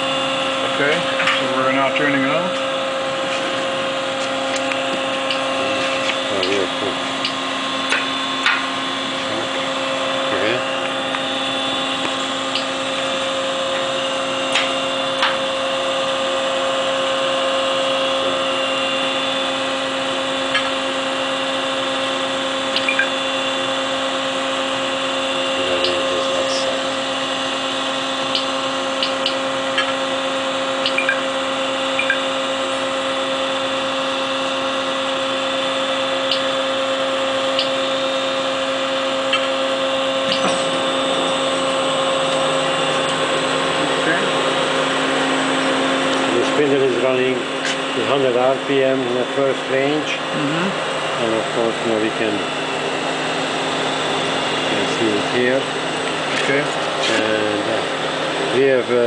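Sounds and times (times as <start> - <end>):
lathe machine hum: 0.0 - 59.0.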